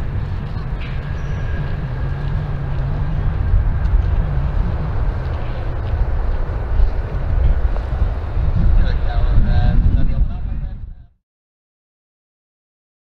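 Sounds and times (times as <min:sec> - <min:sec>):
jet engines rumbling: 0:00.0 - 0:11.1.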